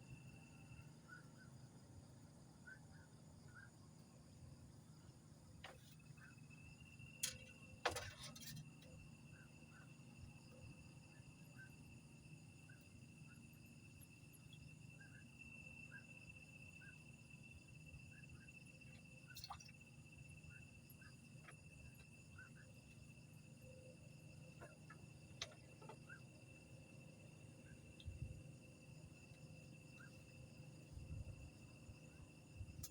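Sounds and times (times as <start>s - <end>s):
crickets trilling and chirping: 0.0s - 32.9s.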